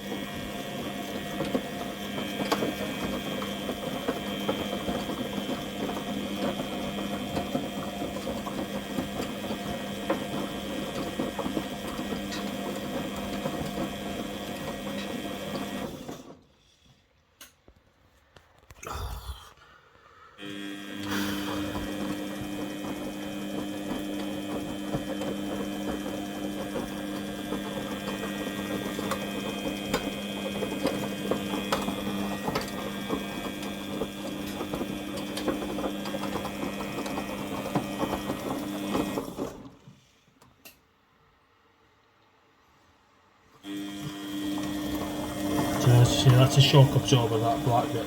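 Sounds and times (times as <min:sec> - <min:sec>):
washing machine motor humming: 0:00.0 - 0:16.4, 0:20.4 - 0:39.8, 0:43.6 - 0:48.0.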